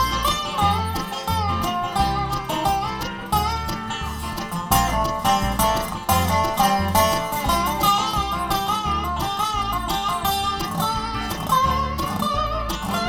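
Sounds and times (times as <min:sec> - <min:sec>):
alternating bass line: 0:00.0 - 0:13.0
bluegrass band playing: 0:00.0 - 0:13.0
plucked string lead: 0:00.0 - 0:13.0.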